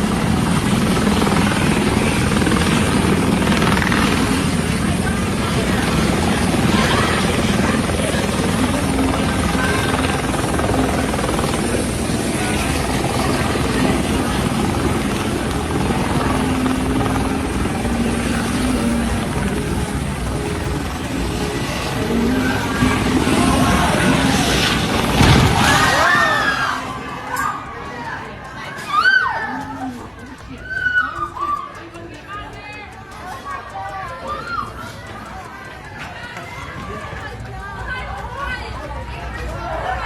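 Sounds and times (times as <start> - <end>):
engine hum: 0.0 - 33.5
helicopter rotor chopping: 0.0 - 40.0.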